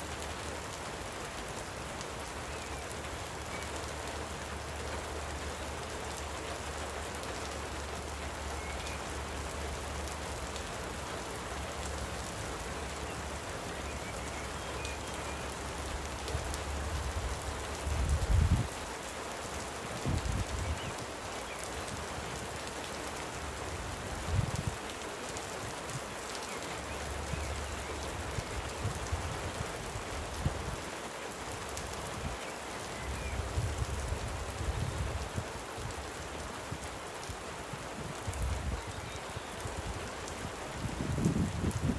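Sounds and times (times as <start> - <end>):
light rain hissing: 0.0 - 41.9.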